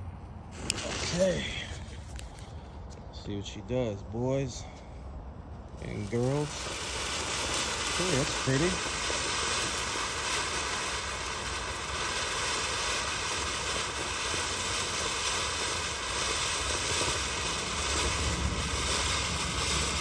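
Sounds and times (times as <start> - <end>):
firework fountain hissing sparks: 0.5 - 2.6, 5.8 - 20.0.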